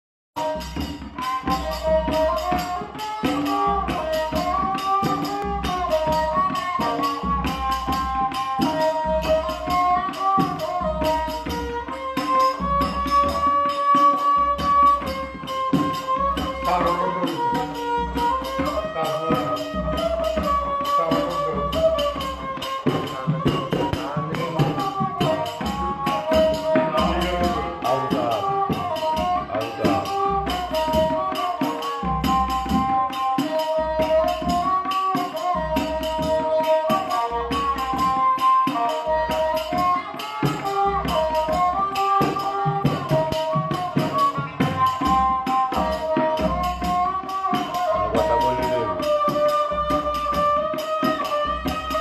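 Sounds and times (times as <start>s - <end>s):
bowed fiddle folk melody: 0.4s - 52.0s
hand drum beat: 0.4s - 52.0s.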